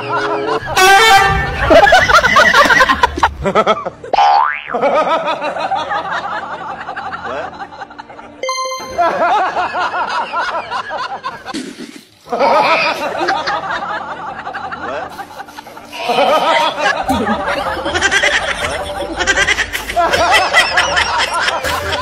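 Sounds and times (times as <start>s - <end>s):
people laughing and giggling: 0.0s - 22.0s.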